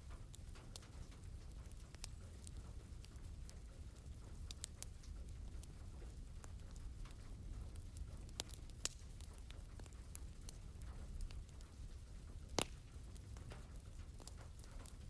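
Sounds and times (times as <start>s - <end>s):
rain pattering: 0.0s - 15.0s
wood fire crackling: 0.0s - 15.0s.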